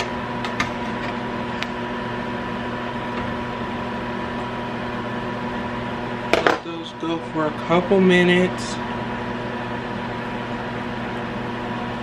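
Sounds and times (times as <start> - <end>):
electric fan motor humming: 0.0 - 12.0.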